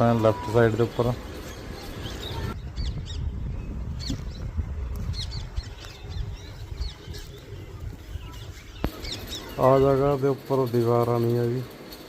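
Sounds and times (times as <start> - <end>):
small birds chirping: 0.0 - 11.7
steady low rumble: 1.1 - 10.8.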